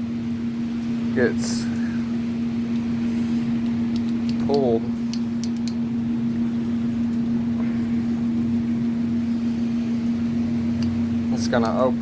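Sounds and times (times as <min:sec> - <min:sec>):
machine hum with low tone: 0:00.0 - 0:12.0.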